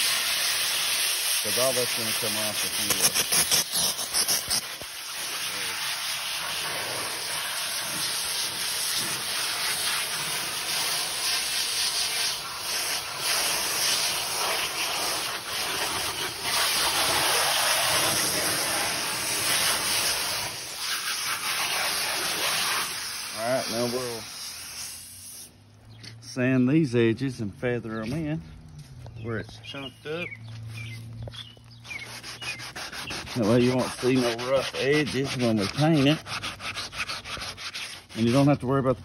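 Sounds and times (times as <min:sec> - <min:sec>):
pressure washer jet on plastic: 0:00.0 - 0:25.5, 0:31.9 - 0:38.5.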